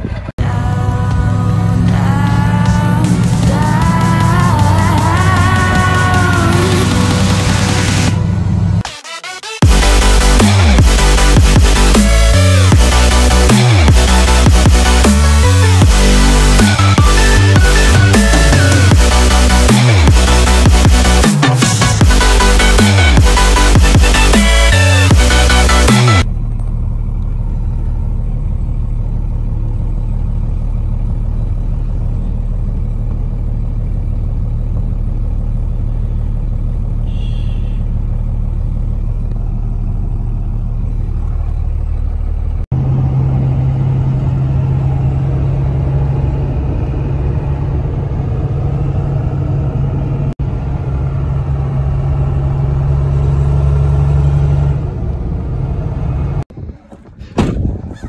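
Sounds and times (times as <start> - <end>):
strong low hum: 0.0 - 8.9, 9.6 - 58.0
truck engine and road noise: 0.0 - 58.0.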